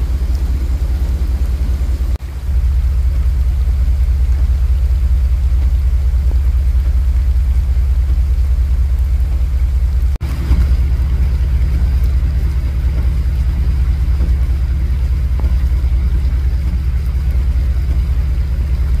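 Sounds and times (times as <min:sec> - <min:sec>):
heavy rain: 0:00.0 - 0:19.0
vehicle engine idling: 0:00.0 - 0:19.0.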